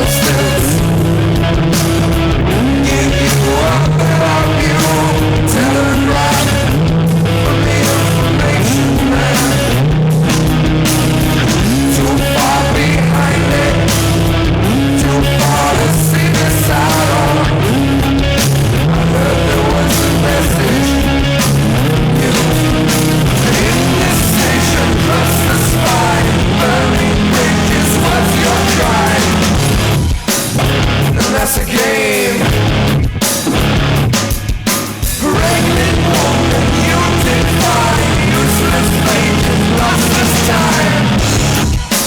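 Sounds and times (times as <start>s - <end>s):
held bass notes: 0.0s - 31.4s, 32.4s - 34.2s, 35.2s - 42.0s
loud rock music: 0.0s - 42.0s.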